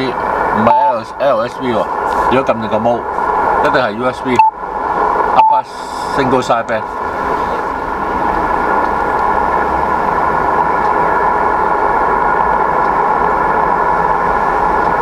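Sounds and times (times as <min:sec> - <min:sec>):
faint steady tones: 0:00.0 - 0:15.0
radio band noise hiss: 0:00.0 - 0:15.0.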